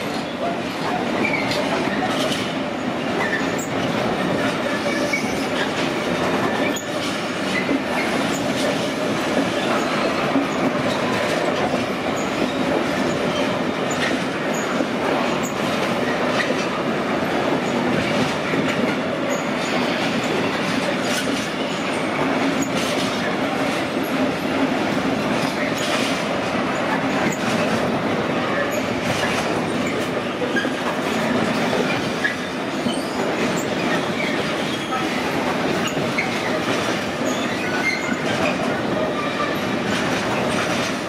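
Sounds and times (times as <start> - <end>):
freight train rolling past: 0.0 - 41.0
wheels rumbling on rail: 0.0 - 41.0.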